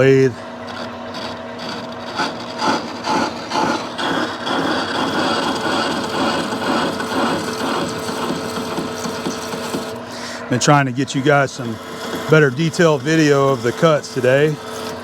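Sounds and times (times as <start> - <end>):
lathe humming: 0.0 - 15.0
lathe tool scraping metal: 0.0 - 15.0.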